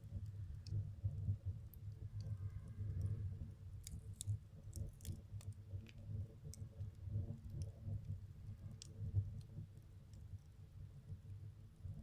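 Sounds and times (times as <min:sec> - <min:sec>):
fire crackling in a stove: 0:00.0 - 0:12.0.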